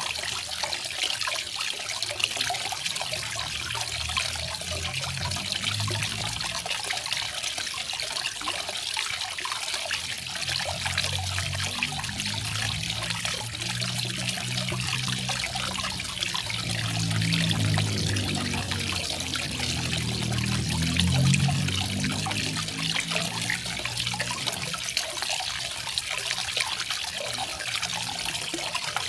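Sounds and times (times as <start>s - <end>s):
small waterfall splashing: 0.0s - 29.0s.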